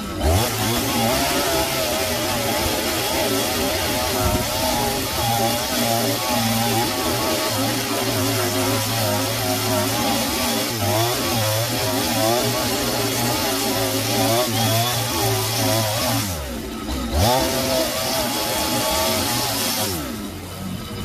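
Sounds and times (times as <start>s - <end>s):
chainsaw cutting into log: 0.0s - 21.0s.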